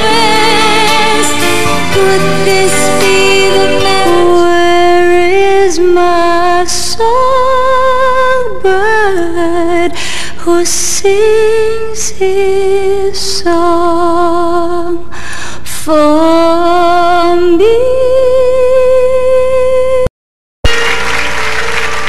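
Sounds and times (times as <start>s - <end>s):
woman singing wordlessly with vibrato: 0.0s - 20.1s.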